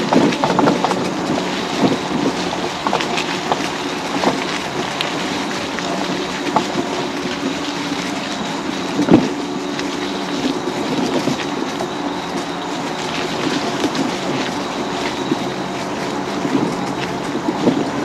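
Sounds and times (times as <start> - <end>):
electric scooter drive humming: 0.0 - 18.0
rattles and knocks from bumps: 0.0 - 18.0.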